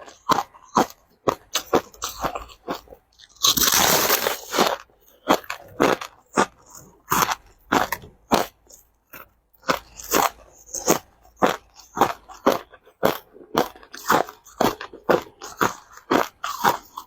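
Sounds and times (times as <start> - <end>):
crushed ice crunching between teeth: 0.0 - 17.0.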